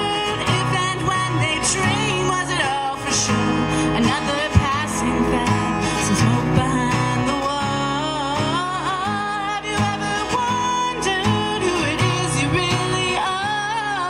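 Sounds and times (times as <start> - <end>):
strummed acoustic guitar: 0.0 - 14.0
woman singing: 0.0 - 14.0.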